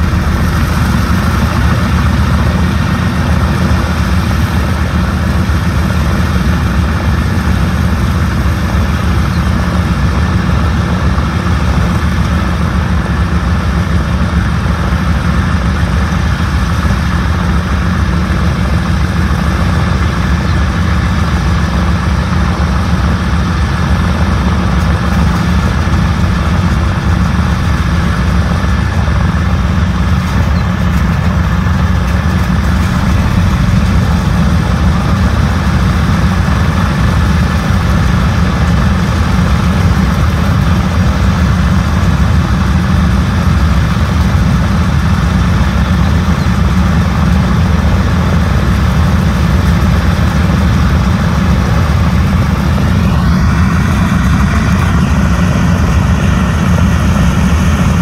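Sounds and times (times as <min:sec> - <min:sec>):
radial engines idling: 0:00.0 - 0:58.0.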